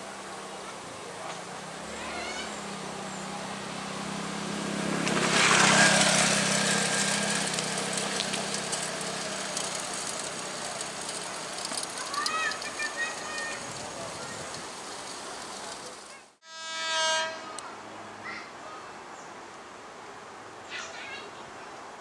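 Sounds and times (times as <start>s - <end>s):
electric train passing: 0.0s - 18.2s.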